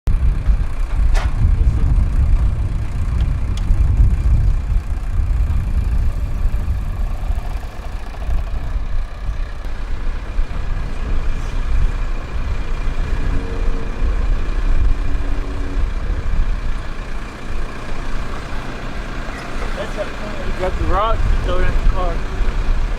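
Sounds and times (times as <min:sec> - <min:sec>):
wind buffeting microphone: 0:00.1 - 0:22.9.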